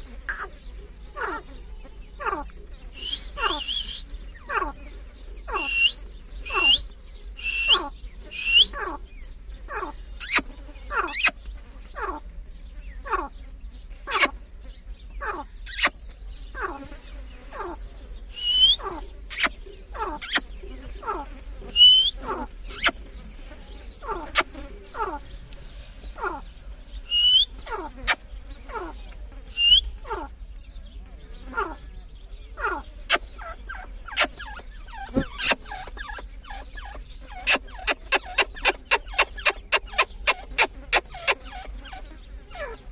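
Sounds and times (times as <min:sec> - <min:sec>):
francolin calling: 0:02.2 - 0:09.0, 0:09.7 - 0:12.2, 0:15.2 - 0:16.8, 0:17.6 - 0:23.0, 0:23.9 - 0:30.3, 0:31.4 - 0:42.9.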